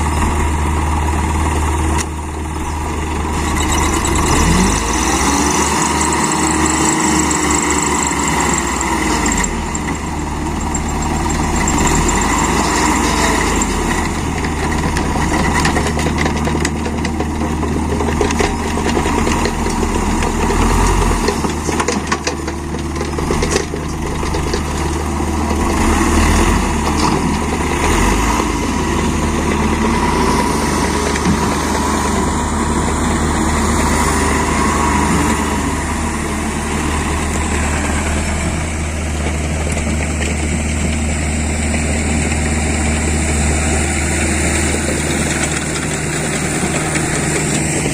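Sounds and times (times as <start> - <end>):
diesel truck engine revving: 0.0 - 21.8, 24.1 - 47.9.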